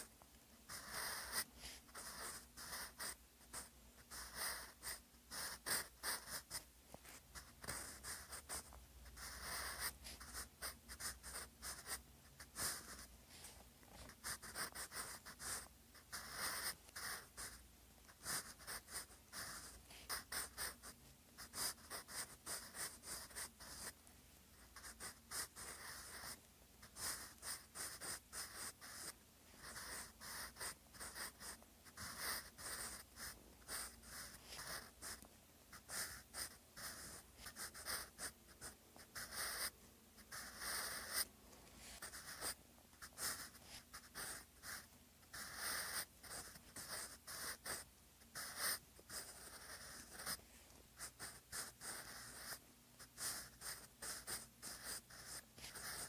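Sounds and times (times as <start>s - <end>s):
pencil scratching on paper: 0.0s - 56.0s.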